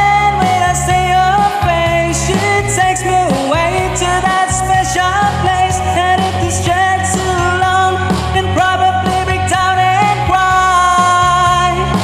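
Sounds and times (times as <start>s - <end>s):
man singing: 0.0s - 12.0s
rock band backing track: 0.0s - 12.0s.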